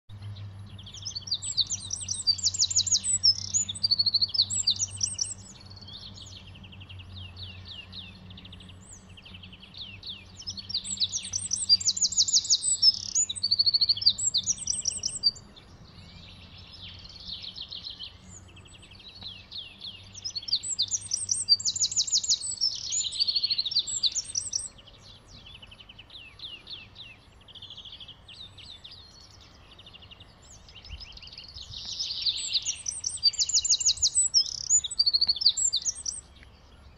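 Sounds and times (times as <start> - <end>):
faint birdsong: 0.1 - 36.9
wren singing trills: 0.1 - 36.9.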